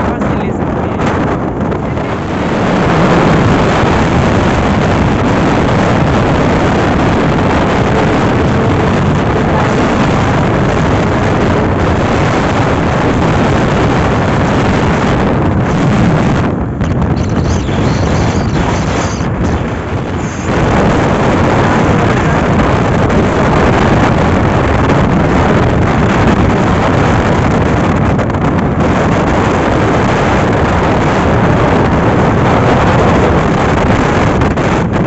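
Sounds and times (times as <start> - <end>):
motorcycle road noise: 0.0 - 35.0
wind rushing over microphone: 0.0 - 35.0.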